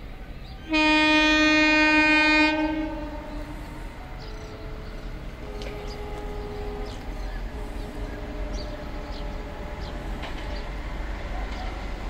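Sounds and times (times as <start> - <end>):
distant locomotive horn: 0.6 - 12.0.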